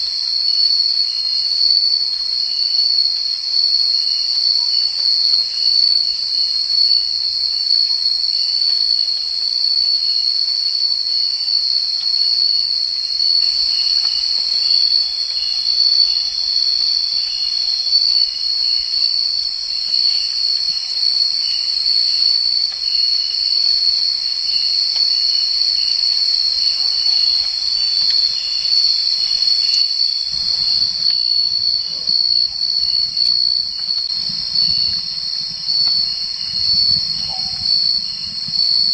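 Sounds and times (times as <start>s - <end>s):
faint pulsing insect call: 0.0s - 38.9s
insect high-pitched trill: 0.0s - 38.9s.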